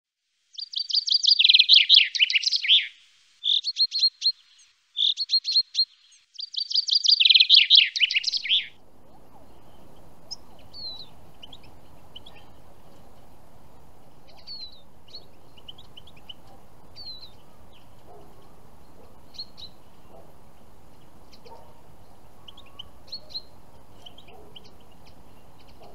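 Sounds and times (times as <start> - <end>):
outdoor background noise: 0.2 - 25.9
faint small bird chirps: 0.5 - 13.3, 14.2 - 20.3, 21.0 - 25.9
chaffinch singing: 0.5 - 25.9.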